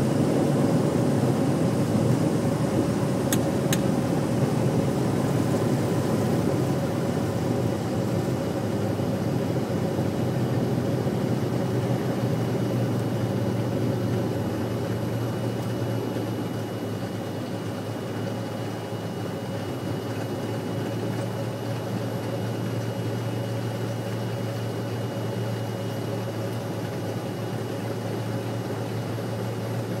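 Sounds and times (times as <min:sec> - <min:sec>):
airplane engine and propeller running: 0:00.0 - 0:30.0.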